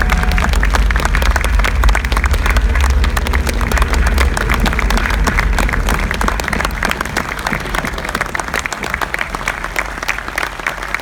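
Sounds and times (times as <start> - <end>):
crowd applauding: 0.0 - 11.0
low rumble: 0.0 - 11.0.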